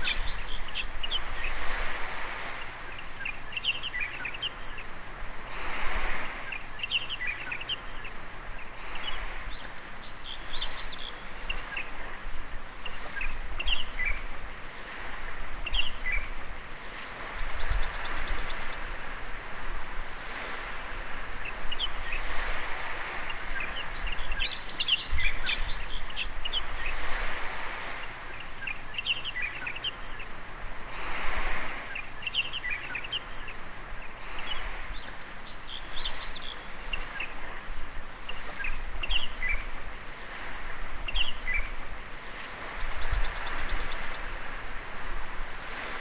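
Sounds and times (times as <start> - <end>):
birds chirping: 0.0 - 5.3, 6.0 - 19.5, 20.3 - 30.5, 31.2 - 46.0
small waves washing on beach: 0.0 - 46.0.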